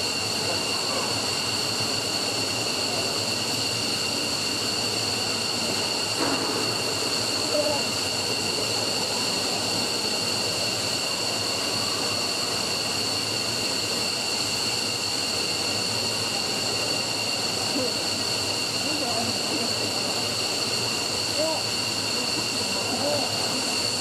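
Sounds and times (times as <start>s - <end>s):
jet engine exhaust rush: 0.0s - 24.0s
turbine whining tones: 0.0s - 24.0s.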